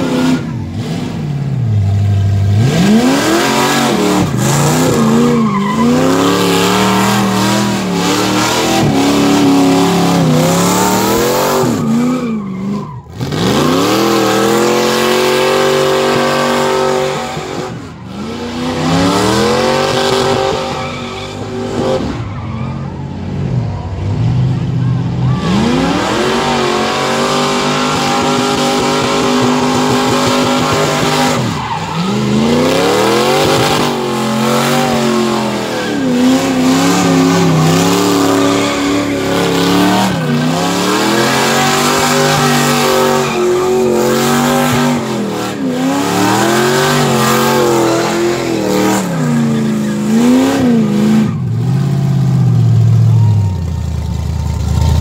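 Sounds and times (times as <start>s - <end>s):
tires screeching on pavement: 0.0s - 55.0s
car engine revving hard: 2.4s - 22.3s, 25.3s - 52.5s.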